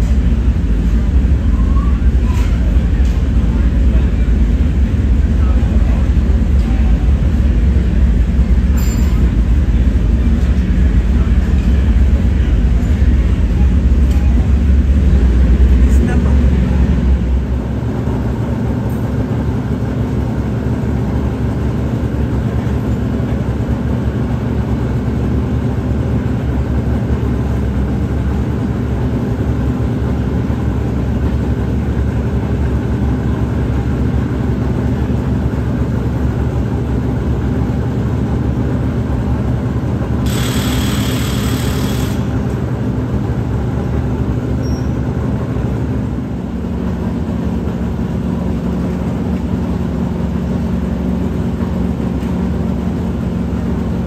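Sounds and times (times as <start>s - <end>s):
race car engines idling: 0.0s - 54.0s.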